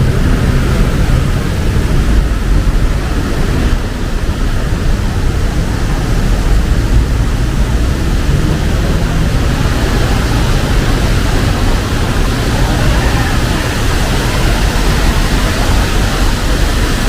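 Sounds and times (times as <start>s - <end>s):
heavy rain falling: 0.0s - 17.0s
low rumble of traffic: 0.0s - 17.0s.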